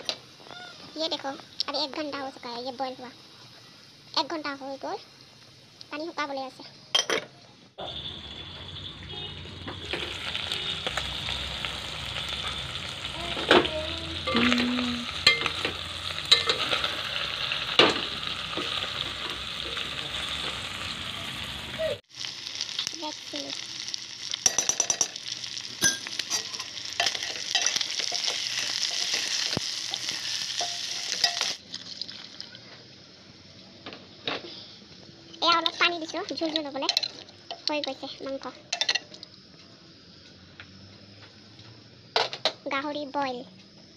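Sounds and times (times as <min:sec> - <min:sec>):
pork sizzling in pot: 0:00.0 - 0:06.6, 0:07.8 - 0:33.6, 0:35.4 - 0:39.5.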